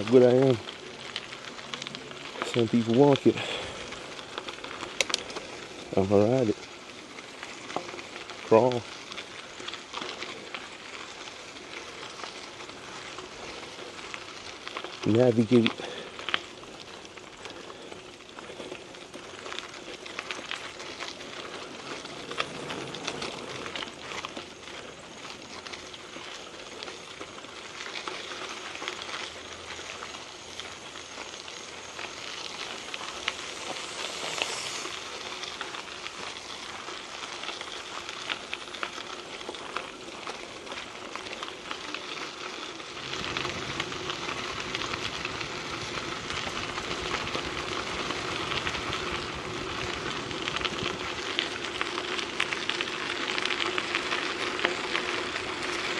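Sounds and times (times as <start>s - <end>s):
bike tyres crunching gravel: 0.0s - 55.9s.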